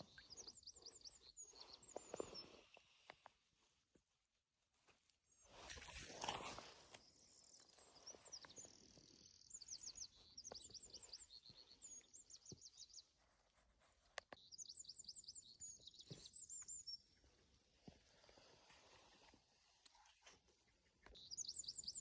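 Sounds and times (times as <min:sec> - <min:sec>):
songbird chirping: 0:00.0 - 0:03.4, 0:05.4 - 0:22.0.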